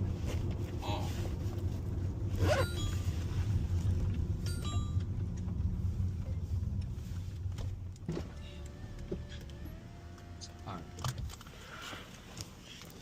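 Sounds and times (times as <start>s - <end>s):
car engine rumble: 0.0s - 13.0s
road noise inside car: 0.0s - 13.0s.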